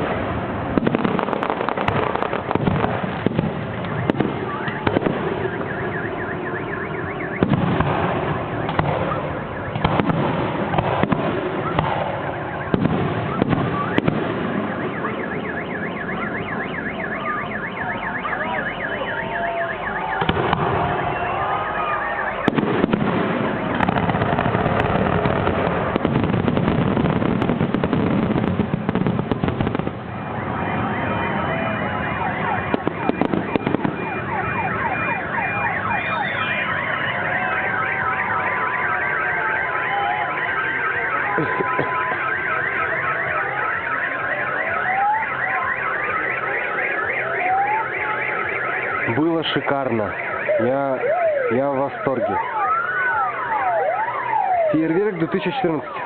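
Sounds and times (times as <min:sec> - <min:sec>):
crowd voices: 0:00.0 - 0:56.0
fireworks bangs and crackle: 0:00.0 - 0:56.0.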